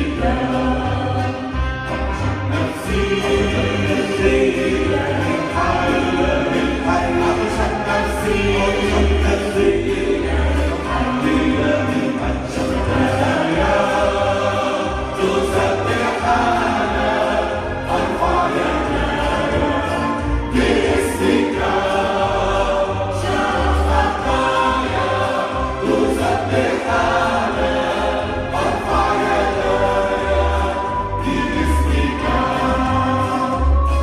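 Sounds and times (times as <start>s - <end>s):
low bass notes: 0.0s - 34.0s
men and women singing together: 0.0s - 34.0s.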